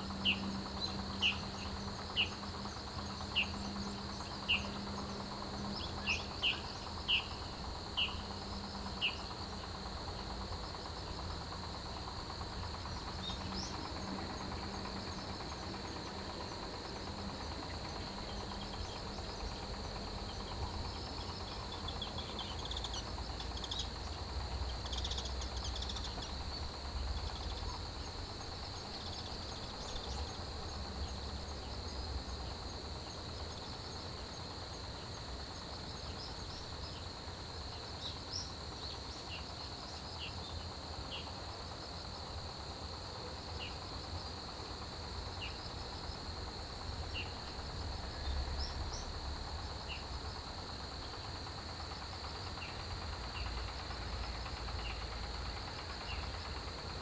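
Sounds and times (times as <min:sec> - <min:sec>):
insects trilling: 0:00.0 - 0:57.0
pulsing insect chirps: 0:00.0 - 0:57.0.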